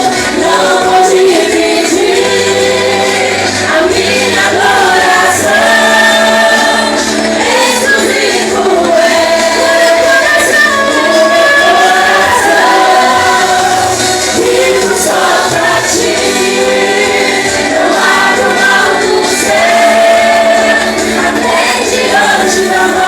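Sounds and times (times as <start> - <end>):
band accompaniment: 0.0 - 23.0
group singing: 0.0 - 23.0.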